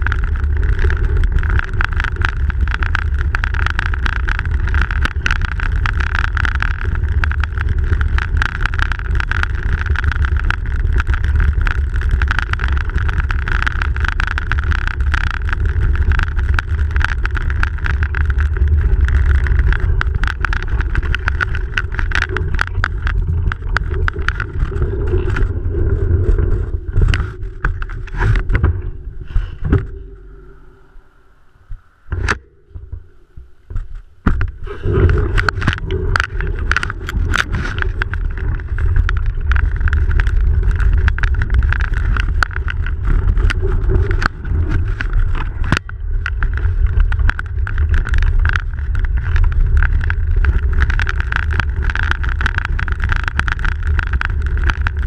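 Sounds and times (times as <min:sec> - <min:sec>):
bicycle rattles and clicks: 0:00.0 - 0:28.8, 0:33.8 - 0:55.0
wind and tyre rumble: 0:00.0 - 0:55.0.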